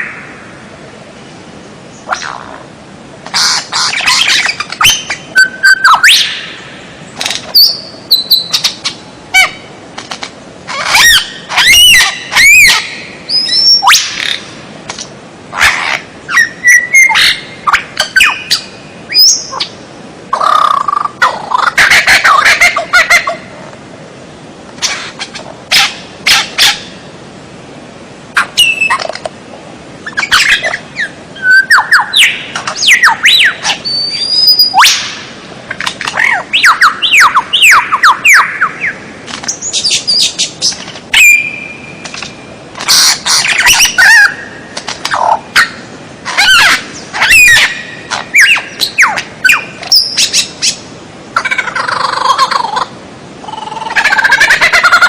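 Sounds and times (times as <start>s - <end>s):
songbird singing: 0.0s - 23.6s, 28.4s - 55.0s.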